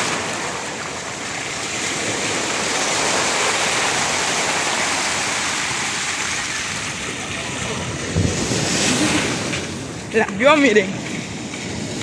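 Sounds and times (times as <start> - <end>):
surf washing in shallows: 0.0 - 12.0.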